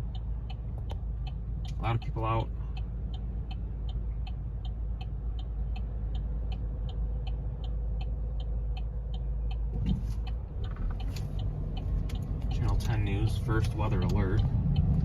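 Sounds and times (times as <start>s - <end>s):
car interior rumble: 0.0s - 15.0s
turn signal clicking: 0.0s - 15.0s.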